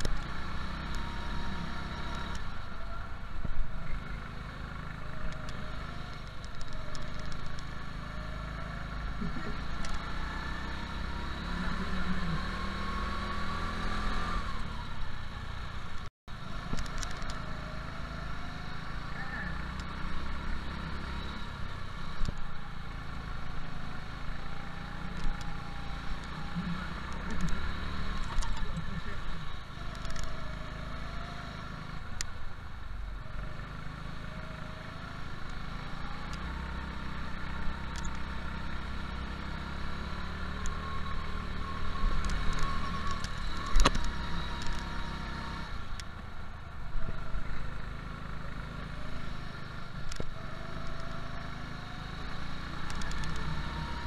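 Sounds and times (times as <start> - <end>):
go-kart engine racing: 0.0 - 54.0.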